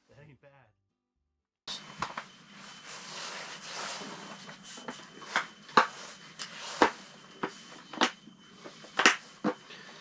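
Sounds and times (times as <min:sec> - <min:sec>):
clothing and gear rustling: 0:01.8 - 0:10.0.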